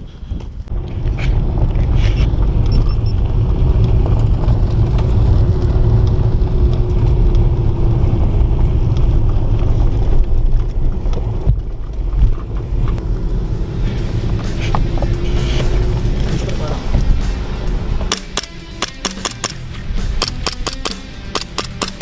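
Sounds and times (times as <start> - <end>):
tyres rumbling on gravel: 0.0 - 22.0
car engine under load: 0.2 - 22.0.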